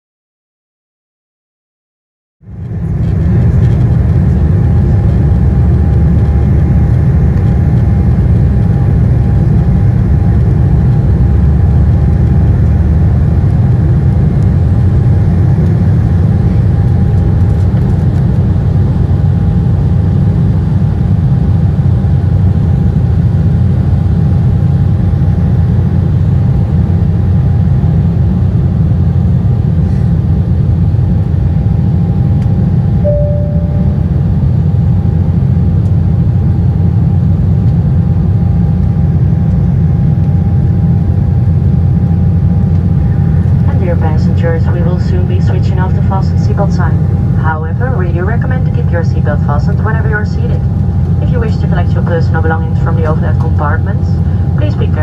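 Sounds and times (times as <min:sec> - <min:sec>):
faint engine whine: 0:02.4 - 0:55.0
jet engine low rumble: 0:02.4 - 0:55.0.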